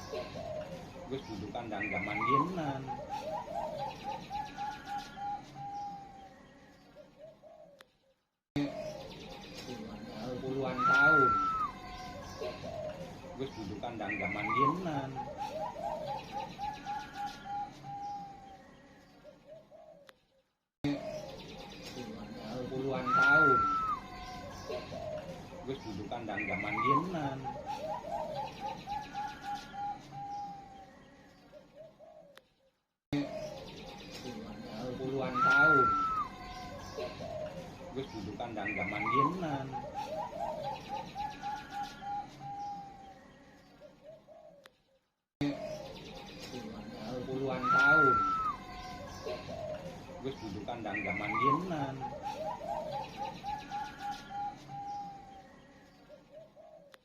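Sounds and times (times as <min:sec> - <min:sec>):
dove cooing: 0:00.0 - 0:07.8, 0:10.0 - 0:20.1, 0:22.3 - 0:32.4, 0:34.5 - 0:44.7, 0:46.8 - 0:57.0.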